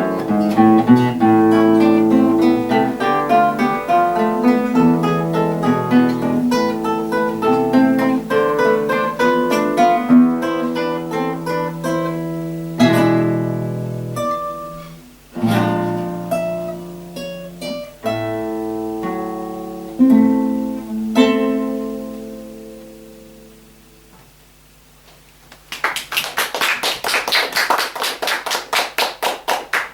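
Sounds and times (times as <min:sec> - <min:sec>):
two guitars playing: 0:00.0 - 0:24.2.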